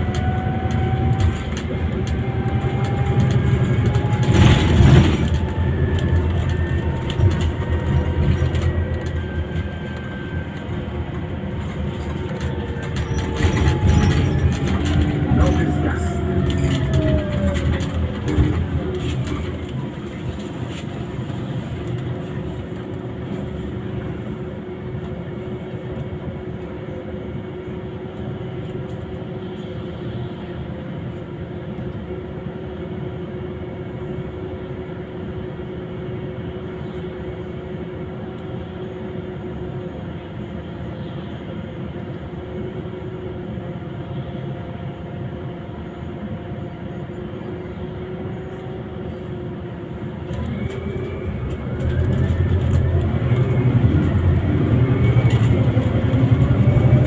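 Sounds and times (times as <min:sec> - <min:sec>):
bus road and engine rumble: 0:00.0 - 0:57.0
held whine: 0:00.0 - 0:57.0.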